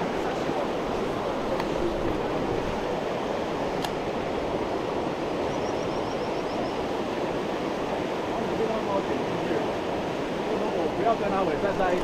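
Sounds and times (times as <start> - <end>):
river rapids over rocks: 0.0 - 12.0.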